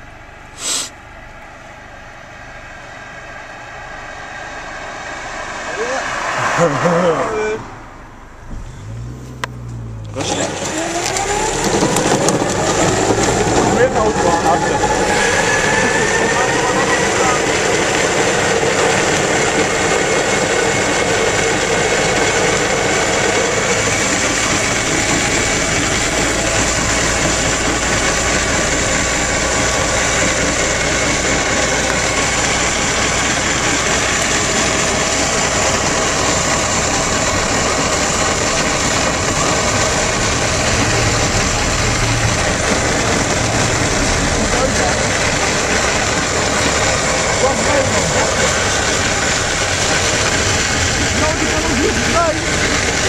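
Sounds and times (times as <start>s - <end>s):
engine noise: 0.0s - 53.0s
wheels rumbling on asphalt: 0.0s - 53.0s.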